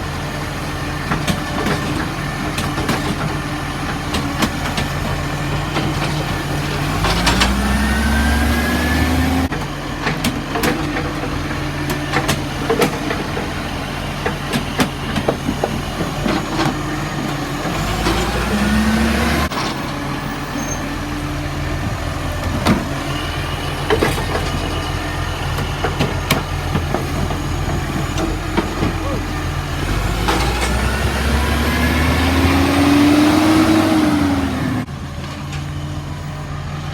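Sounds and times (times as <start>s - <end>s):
garbage truck engine revving: 0.0s - 36.9s.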